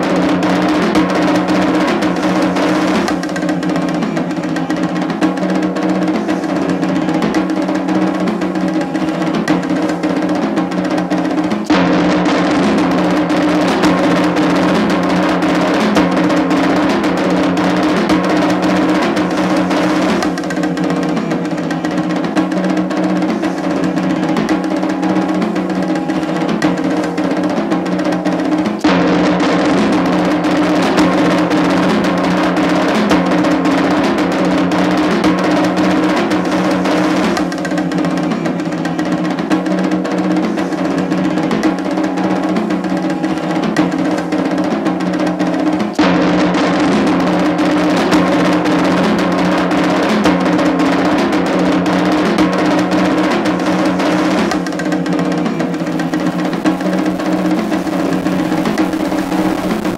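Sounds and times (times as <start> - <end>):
fast dense drumming: 0.0 - 59.9.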